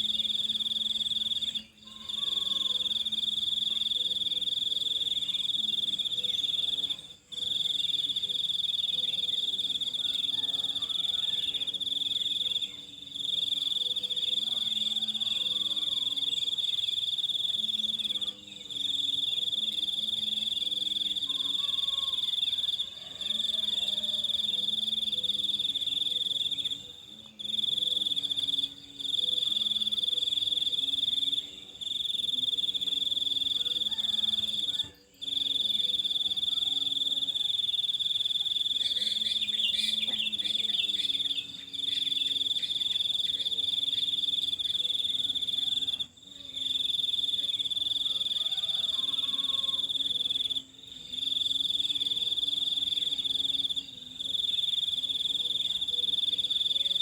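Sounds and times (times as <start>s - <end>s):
insect chorus pulsing: 0.0s - 57.0s
insect high trill: 0.0s - 57.0s.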